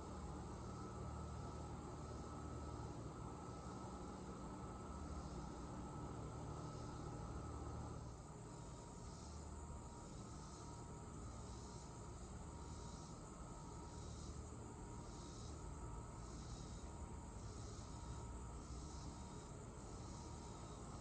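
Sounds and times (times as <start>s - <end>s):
faint pulsing insect call: 0.0s - 21.0s
insects trilling: 0.0s - 21.0s.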